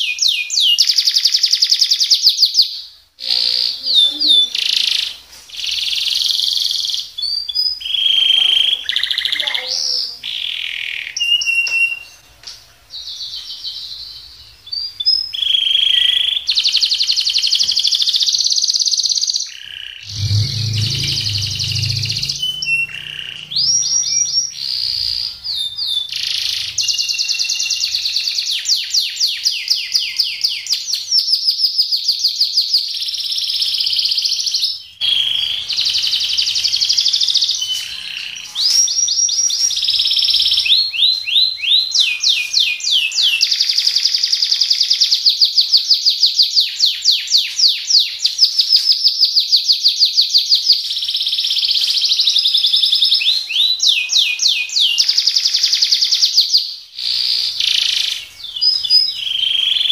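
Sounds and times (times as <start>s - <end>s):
canary singing trills: 0.0s - 12.2s, 12.9s - 30.8s, 31.9s - 59.9s.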